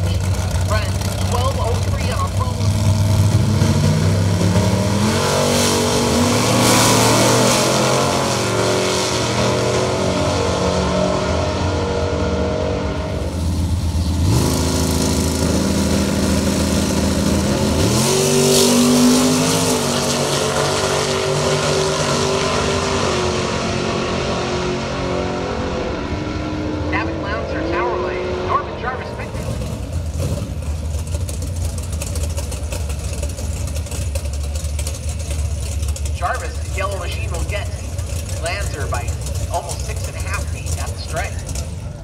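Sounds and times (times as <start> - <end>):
drag racing cars accelerating: 0.0 - 42.0.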